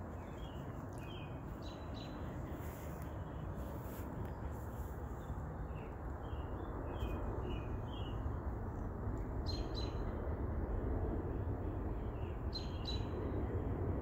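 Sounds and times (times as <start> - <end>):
wild birds chirping: 0.0 - 10.3, 11.3 - 13.5
low outdoor background rush: 0.0 - 14.0.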